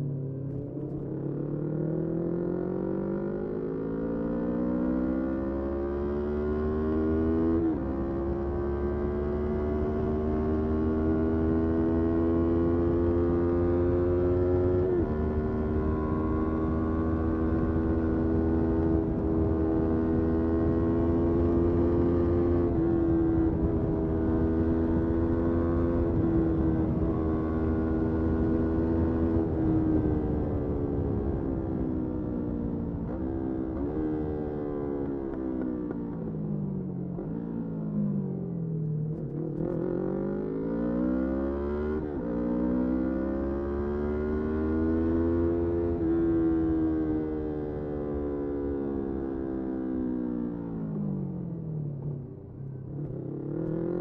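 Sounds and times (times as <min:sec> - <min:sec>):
motorcycle engine accelerating: 0:00.2 - 0:54.0.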